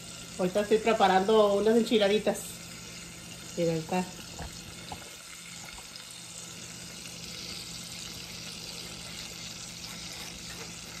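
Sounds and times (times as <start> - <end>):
sauce sizzling in hot oil: 0.0 - 11.0.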